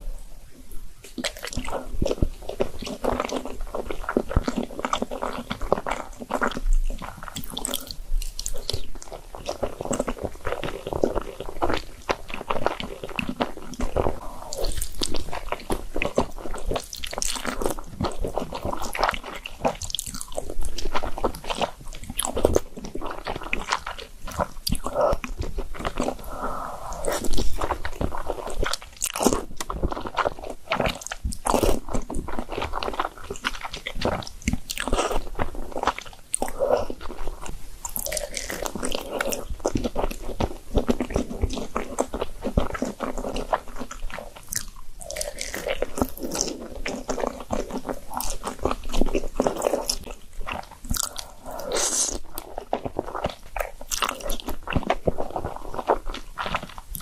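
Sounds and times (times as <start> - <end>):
person chewing food: 1.0 - 57.0.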